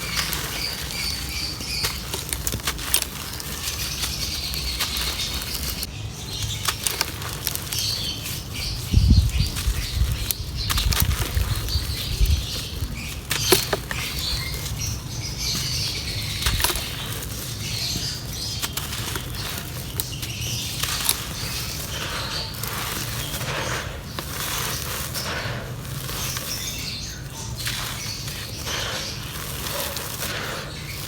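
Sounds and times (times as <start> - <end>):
dry clay crumbling and crackling: 0.0 - 31.0.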